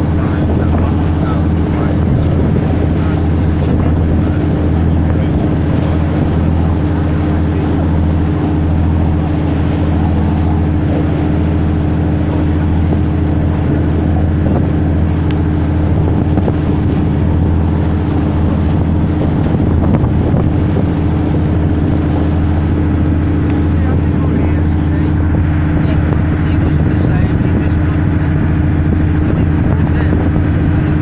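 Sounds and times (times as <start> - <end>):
boat engine droning: 0.0 - 31.0
water rushing past hull: 0.0 - 31.0.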